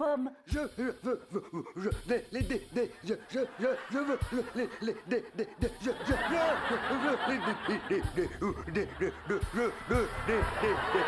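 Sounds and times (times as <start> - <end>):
man hooting laugh: 1.3 - 11.0.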